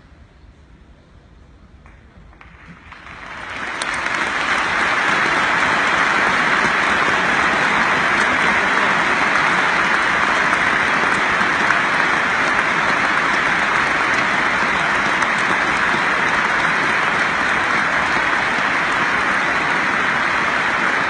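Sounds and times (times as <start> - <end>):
stadium crowd applauding: 1.9 - 21.0.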